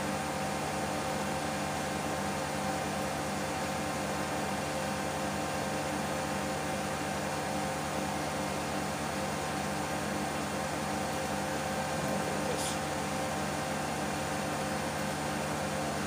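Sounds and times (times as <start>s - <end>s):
machine hum with fan hiss: 0.0s - 16.0s.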